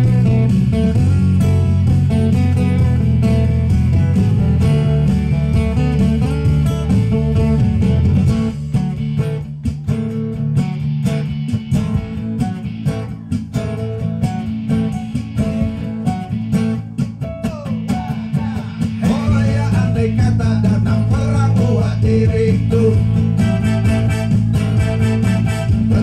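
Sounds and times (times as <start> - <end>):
acoustic guitar strumming: 0.0 - 26.0
sustained keyboard chords: 0.0 - 26.0.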